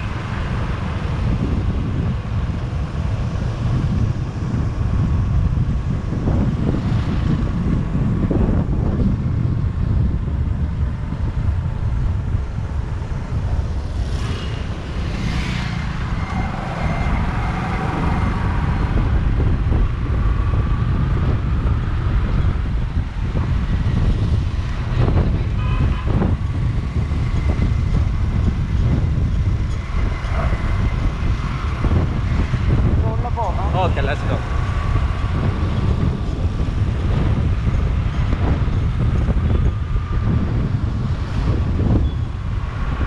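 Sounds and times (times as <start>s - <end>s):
traffic passing: 0.0s - 43.0s
wind rush on microphone: 0.0s - 43.0s.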